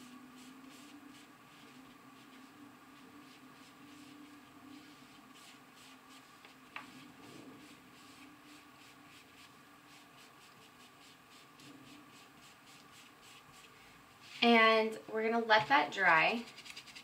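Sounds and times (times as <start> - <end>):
paintbrush dabbing on felt: 0.0 - 14.4.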